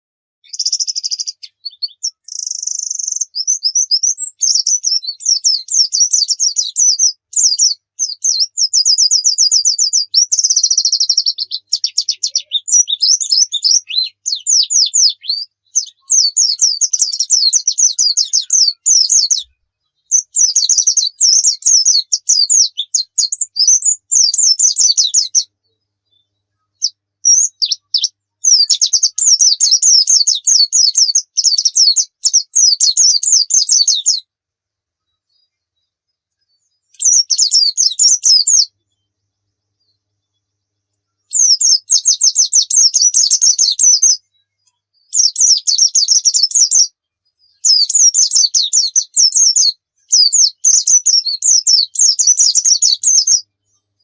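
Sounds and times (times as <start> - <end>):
bird singing high chirps and trills: 0.4 - 54.0.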